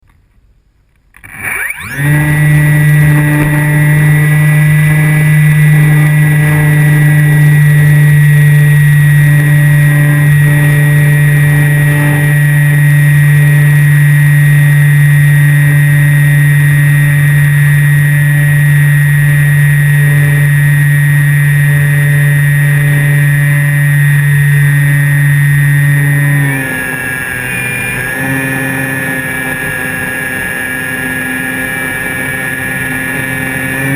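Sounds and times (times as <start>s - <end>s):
model plane propeller drone: 1.1s - 33.9s.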